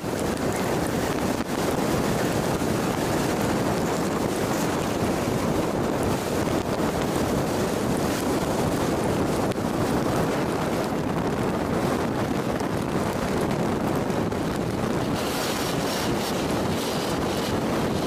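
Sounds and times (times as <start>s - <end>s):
road and wind noise inside car: 0.0s - 18.0s.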